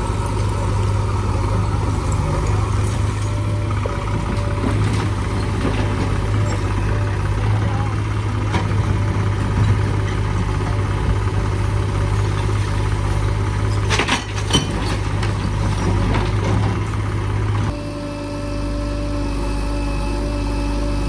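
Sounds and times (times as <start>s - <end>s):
diesel engine of heavy machinery: 0.0s - 21.0s
steady engine hum: 0.0s - 21.0s.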